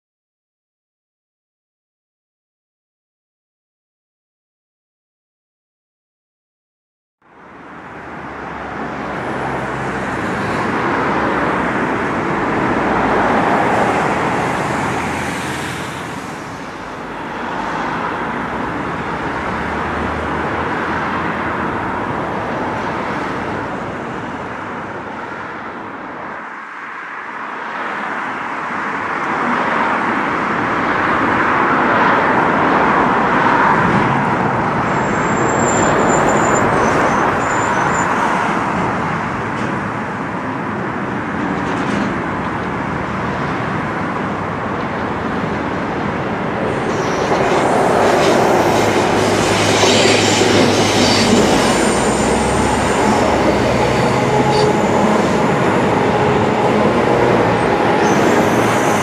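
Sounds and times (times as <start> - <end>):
cars passing on road: 7.2 - 59.0.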